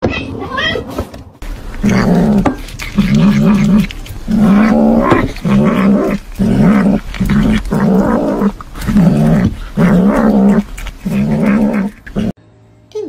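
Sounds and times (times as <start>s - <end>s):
cat growling: 1.4s - 12.4s.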